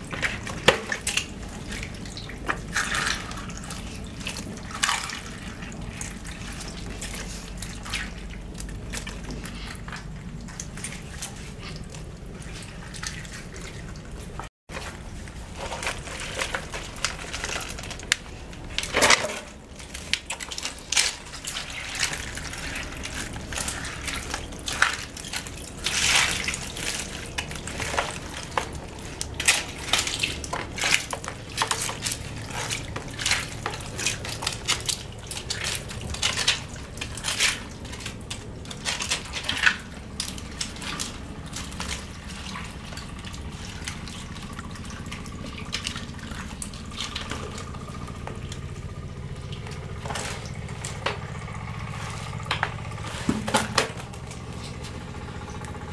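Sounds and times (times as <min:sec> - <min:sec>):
splashing in shallow muddy water: 0:00.0 - 0:55.9.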